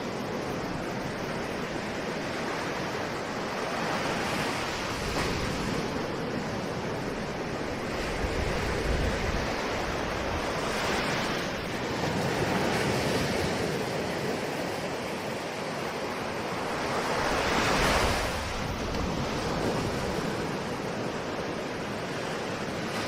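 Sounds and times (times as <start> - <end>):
ocean waves washing onto shore: 0.0 - 23.0.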